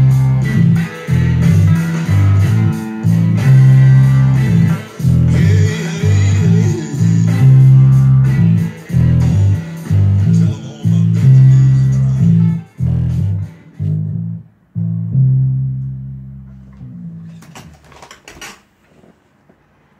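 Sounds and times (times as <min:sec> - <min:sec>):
electric bass guitar notes: 0:00.0 - 0:17.8.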